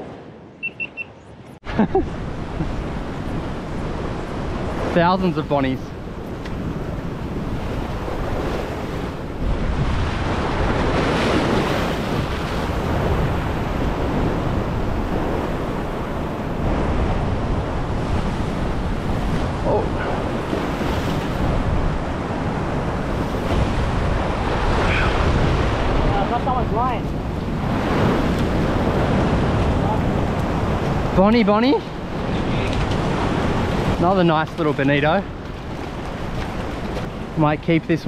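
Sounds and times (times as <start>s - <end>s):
wind buffeting microphone: 0.0s - 38.0s
ocean waves washing over rocks: 2.1s - 38.0s.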